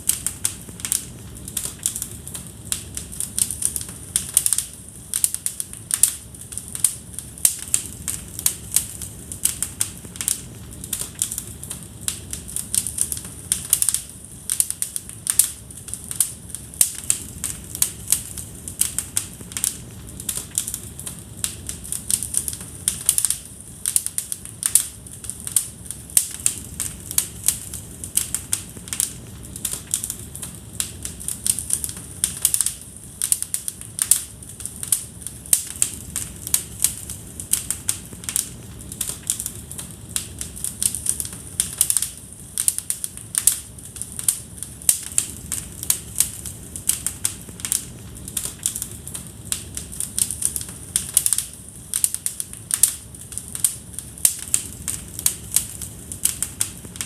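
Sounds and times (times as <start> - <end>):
low rush of flame: 0.0 - 57.0
wood fire crackling and popping: 0.0 - 57.0.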